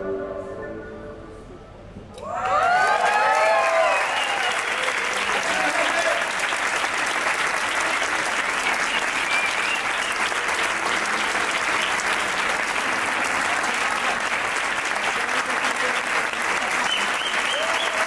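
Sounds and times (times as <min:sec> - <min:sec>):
audience applauding: 0:02.2 - 0:18.0.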